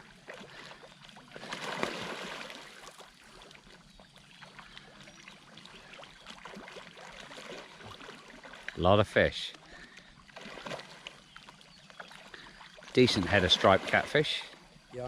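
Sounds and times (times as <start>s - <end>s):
water splashing from feeding fish: 0.0s - 8.8s, 9.7s - 14.6s.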